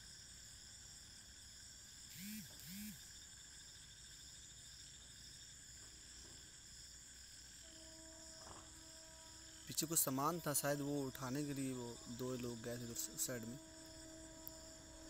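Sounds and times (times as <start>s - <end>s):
faint high-pitched hiss: 0.0s - 15.0s
faint steady tone: 0.0s - 15.0s.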